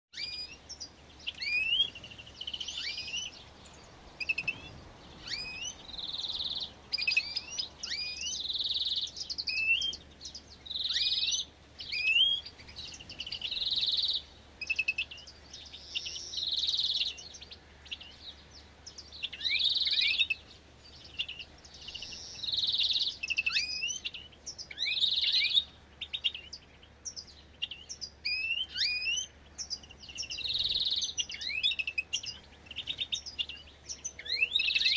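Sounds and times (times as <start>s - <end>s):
finches chirping: 0.2s - 34.9s.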